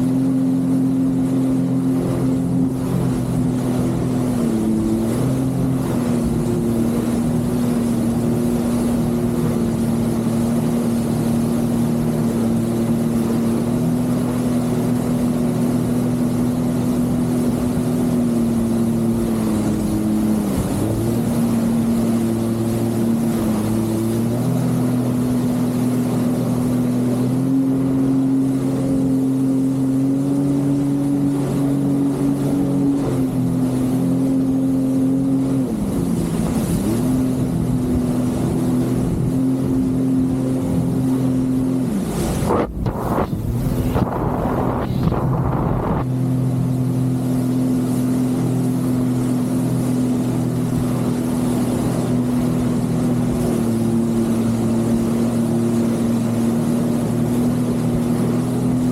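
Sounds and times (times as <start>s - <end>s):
jet ski engine running: 0.0s - 58.9s.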